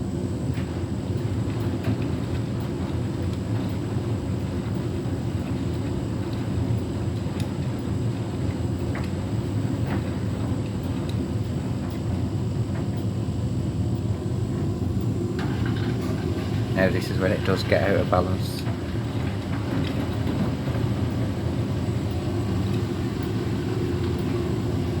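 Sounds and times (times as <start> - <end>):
washing machine running: 0.0 - 25.0.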